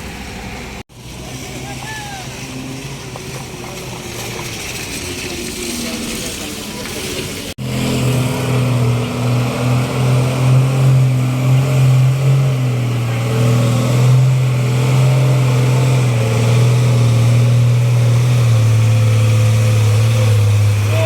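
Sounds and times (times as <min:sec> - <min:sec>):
heavy vehicle engine climbing: 0:00.0 - 0:21.0.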